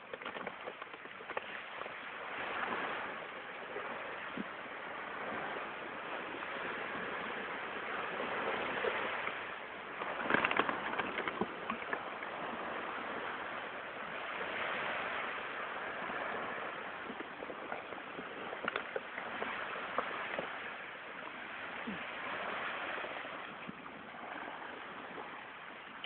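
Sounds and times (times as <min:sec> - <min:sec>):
small waves washing over sand: 0:00.0 - 0:26.0.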